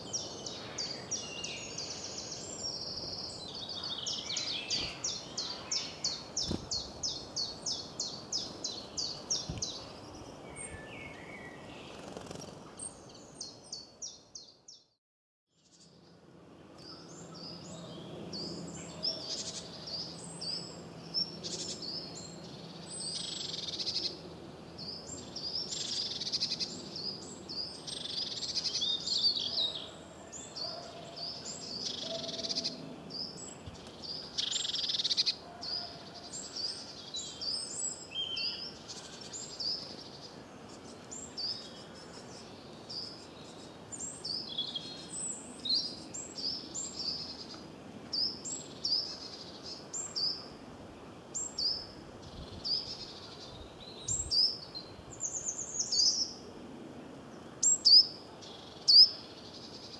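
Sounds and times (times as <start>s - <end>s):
songbirds singing and calling: 0.0s - 56.5s, 57.3s - 59.9s.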